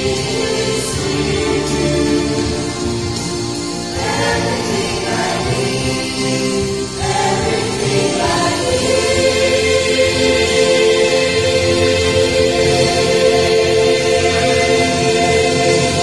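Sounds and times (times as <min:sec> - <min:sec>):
church choir singing a hymn: 0:00.0 - 0:16.0.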